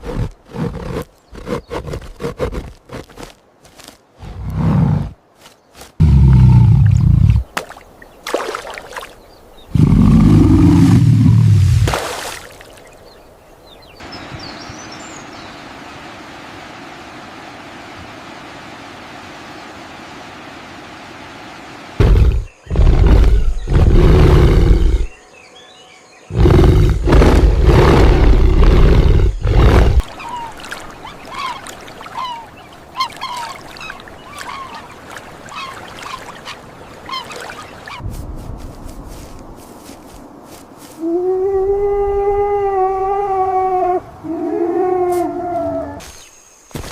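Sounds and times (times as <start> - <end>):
outdoor background: 0.0 - 46.9.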